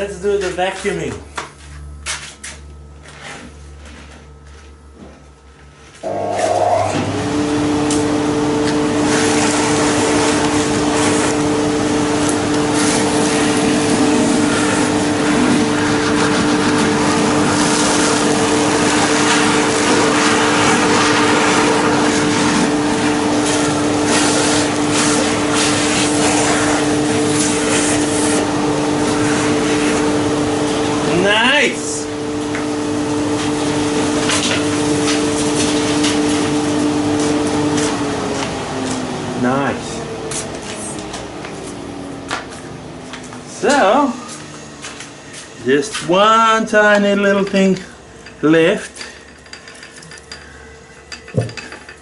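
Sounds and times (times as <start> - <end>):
vacuum cleaner motor whine: 2.7 - 48.8.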